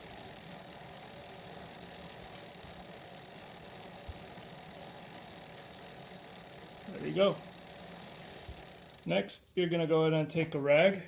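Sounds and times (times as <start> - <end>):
bicycle chain running over sprockets: 0.0 - 9.3.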